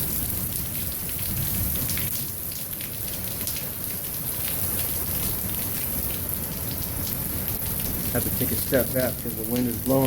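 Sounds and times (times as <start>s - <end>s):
heavy rain pouring: 0.0s - 10.0s
raindrops splashing: 0.0s - 10.0s.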